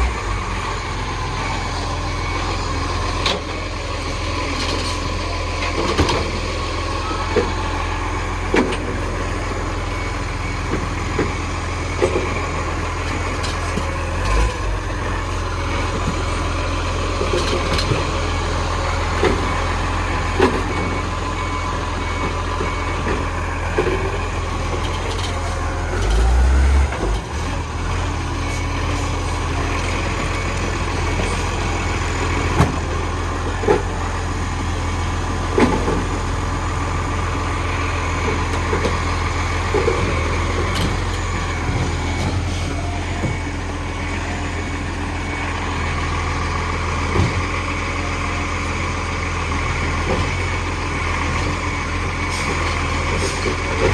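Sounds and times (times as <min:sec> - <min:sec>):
garbage truck diesel engine: 0:00.0 - 0:53.9.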